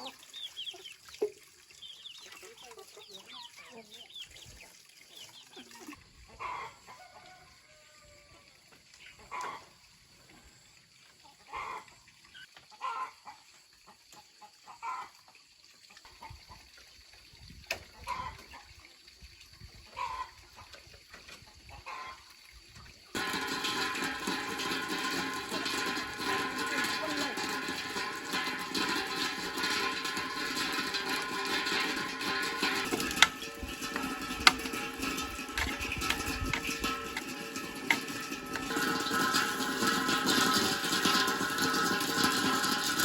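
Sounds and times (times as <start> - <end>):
chickens clucking: 0.0 - 7.9, 9.0 - 9.9, 10.5 - 16.7, 17.7 - 18.7, 19.9 - 22.3, 23.1 - 43.0.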